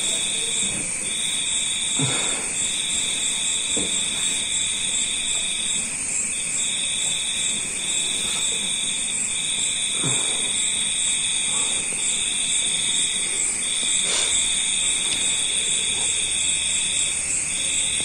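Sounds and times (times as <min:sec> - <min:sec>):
insect chorus trilling: 0:00.0 - 0:18.0.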